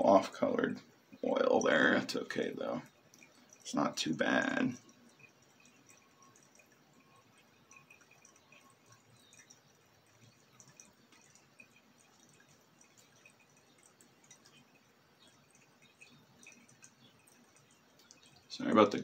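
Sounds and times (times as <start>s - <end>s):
liquid dripping into a flask: 0.0s - 19.0s.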